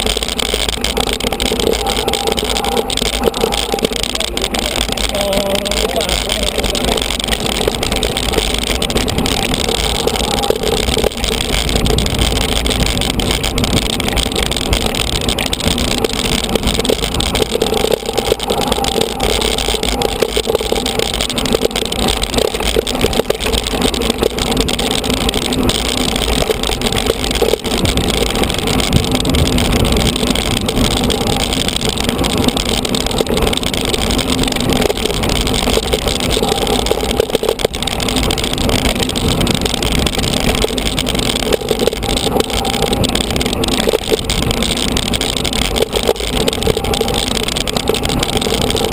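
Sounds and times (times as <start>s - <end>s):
bike rattling and clicking: 0.0s - 48.9s
wind rumble on microphone: 0.0s - 48.9s.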